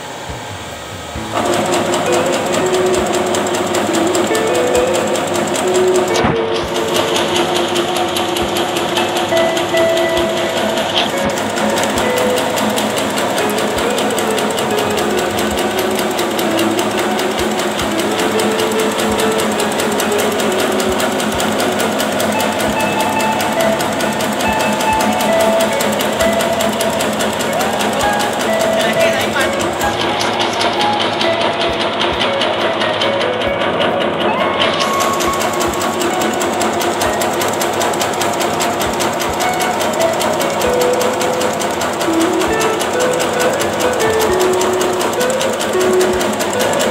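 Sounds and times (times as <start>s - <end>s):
machine rattling with hum: 0.0s - 46.9s.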